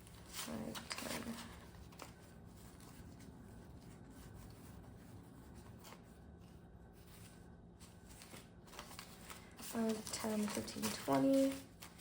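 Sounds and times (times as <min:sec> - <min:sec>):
banknotes rustling and flicking: 0:00.0 - 0:12.0
room hum: 0:00.0 - 0:12.0.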